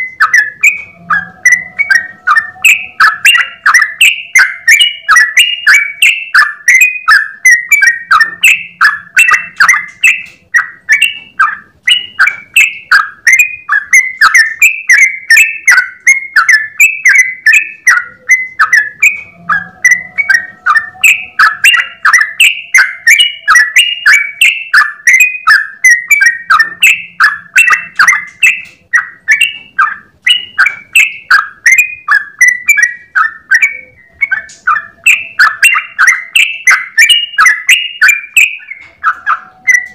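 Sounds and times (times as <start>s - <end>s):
bird singing bubbling notes: 0.0s - 39.9s.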